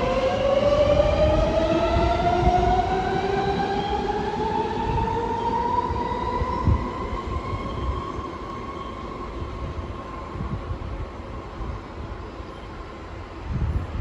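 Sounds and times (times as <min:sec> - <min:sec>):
rumble of wheels on rail: 0:00.0 - 0:14.0.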